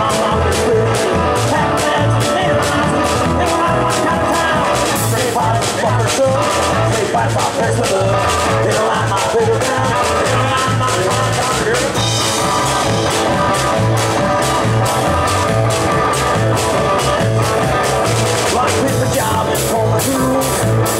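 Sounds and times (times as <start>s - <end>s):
drum kit beat: 0.0s - 20.9s
electric guitar: 0.0s - 20.9s
man singing lead: 0.0s - 20.9s
upright bass pulsing: 0.0s - 20.9s.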